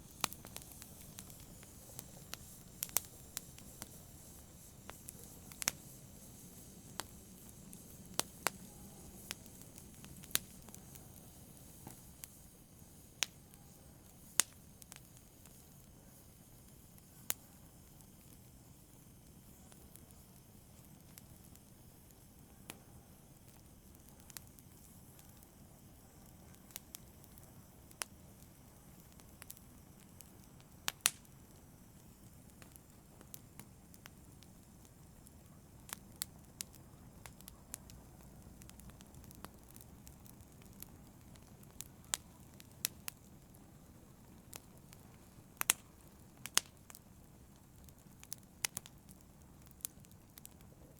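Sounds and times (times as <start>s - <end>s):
low rush of burning: 0.0s - 50.9s
wood fire crackling: 0.0s - 50.9s.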